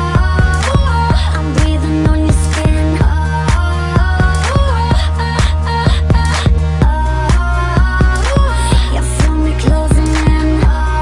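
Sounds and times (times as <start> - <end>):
deep bass: 0.0 - 11.0
steady electronic beat: 0.0 - 11.0.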